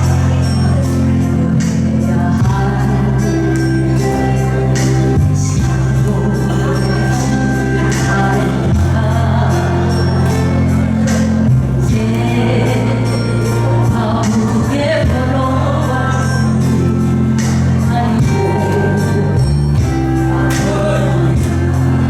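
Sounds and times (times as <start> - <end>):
backing track bass and chords: 0.0 - 22.0
person singing: 0.0 - 22.0.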